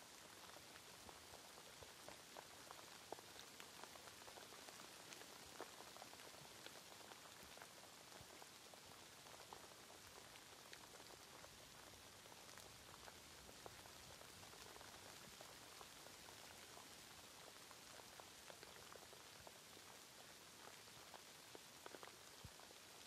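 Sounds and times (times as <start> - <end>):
faint steady rain: 0.0 - 23.0.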